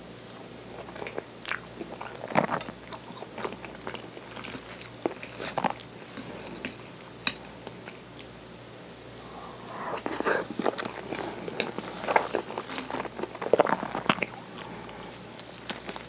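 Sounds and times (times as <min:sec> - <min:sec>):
chewing with wet mouth smacks: 0:00.3 - 0:06.9, 0:09.3 - 0:16.0.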